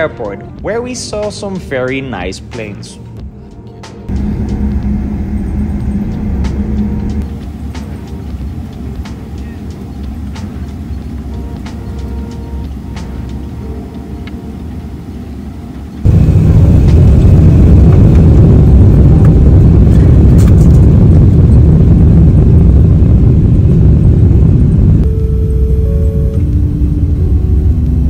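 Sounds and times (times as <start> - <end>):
jet engine cabin rumble: 3.3 - 28.0.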